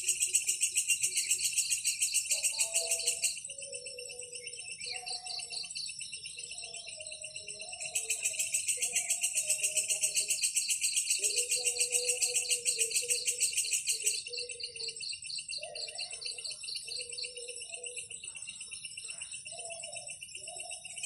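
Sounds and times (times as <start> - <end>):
insect chirring: 0.0 - 21.0.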